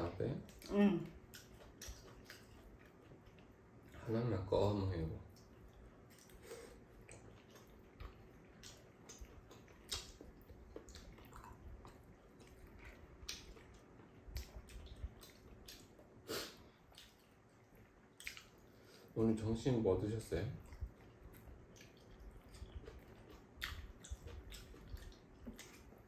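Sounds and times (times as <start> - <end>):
wet chewing sounds: 0.3 - 4.2, 5.2 - 19.2, 20.4 - 26.0.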